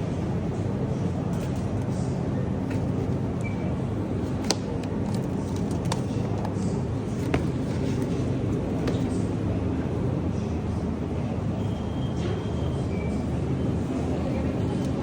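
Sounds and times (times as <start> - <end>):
grocery store background rumble: 0.0 - 15.0.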